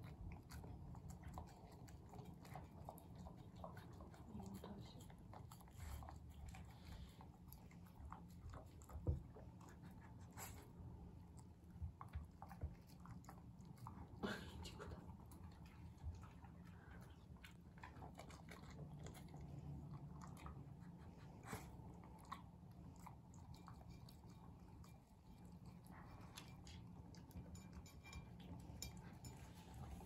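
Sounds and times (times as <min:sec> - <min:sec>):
dog chewing: 0:00.0 - 0:30.0.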